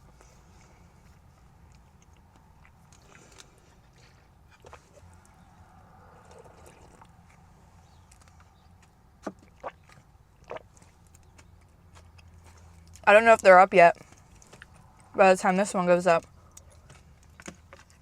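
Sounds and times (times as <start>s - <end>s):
person chewing: 0.0s - 13.0s, 14.0s - 15.2s, 16.2s - 18.0s.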